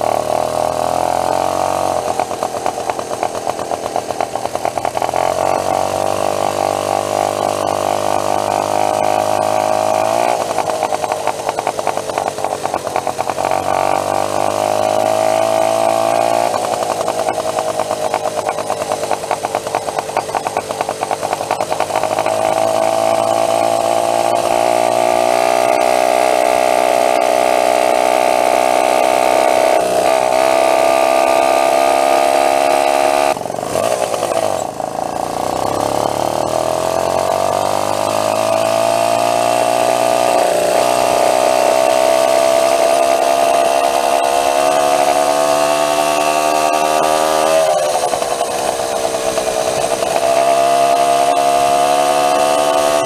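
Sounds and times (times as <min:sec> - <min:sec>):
small gas engine revving: 0:00.0 - 0:53.0.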